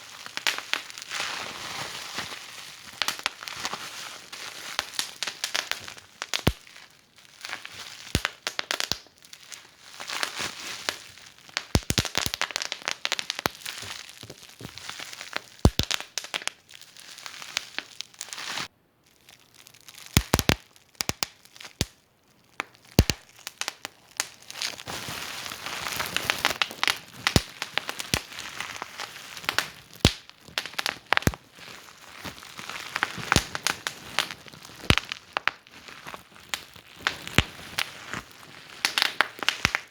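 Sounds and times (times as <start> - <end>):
wood fire crackling and popping: 0.0 - 1.1, 2.8 - 3.8, 4.5 - 16.6, 20.1 - 21.9, 22.6 - 39.9.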